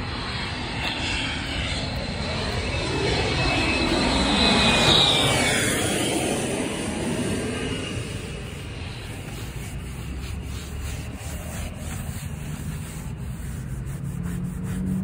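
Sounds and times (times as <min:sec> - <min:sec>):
engine passing by: 0:00.0 - 0:15.0
high whine: 0:00.0 - 0:15.0.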